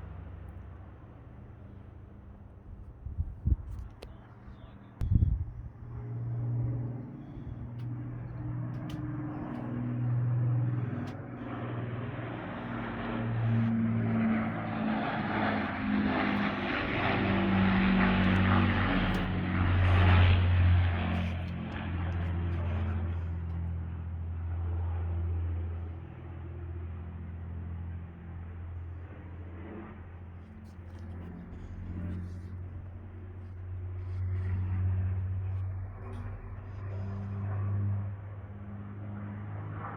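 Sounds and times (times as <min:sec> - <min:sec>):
propeller aircraft flying past: 0:00.0 - 0:39.9.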